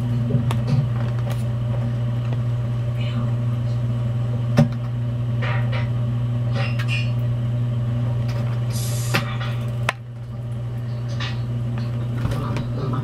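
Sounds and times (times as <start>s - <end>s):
water pump humming: 0.0s - 13.0s.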